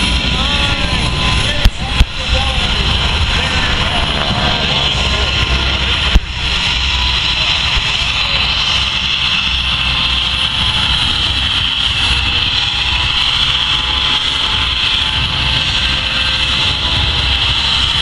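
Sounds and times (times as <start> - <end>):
aircraft engine roar: 0.0 - 18.0.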